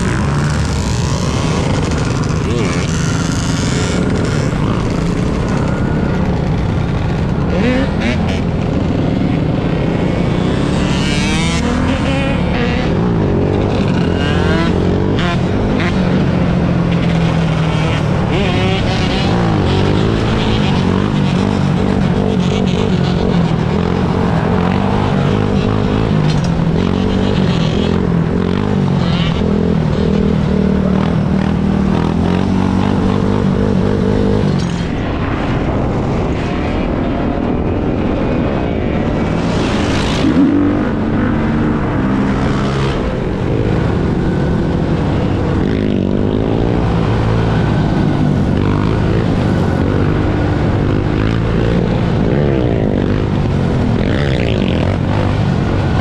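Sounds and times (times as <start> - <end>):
engine revving: 0.0 - 36.3, 38.4 - 56.0
atv and dirt bike engines: 0.0 - 56.0.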